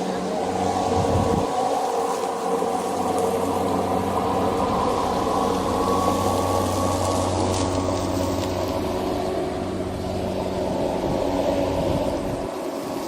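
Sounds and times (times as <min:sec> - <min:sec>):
electric lawnmower humming: 0:00.0 - 0:13.0.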